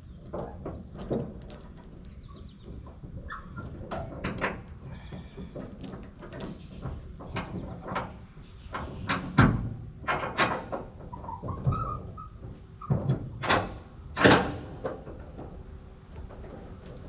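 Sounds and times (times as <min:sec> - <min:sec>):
irregular knocks and clanks: 0:00.2 - 0:17.0.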